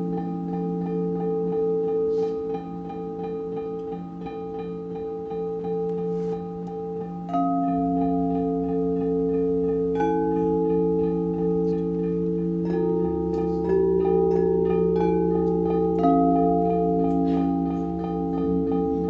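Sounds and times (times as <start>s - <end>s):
crystal singing bowls ringing: 0.0s - 19.0s.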